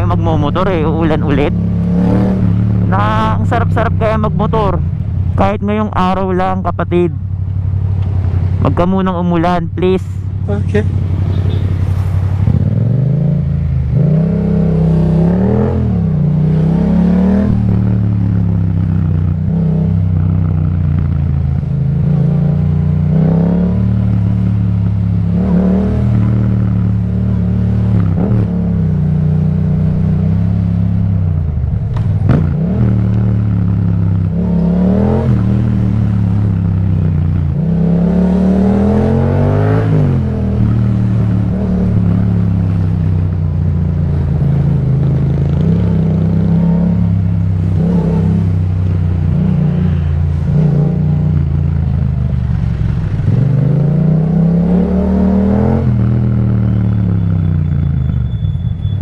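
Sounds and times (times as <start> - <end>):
motorcycle engine revving: 0.0 - 6.3, 10.2 - 59.0.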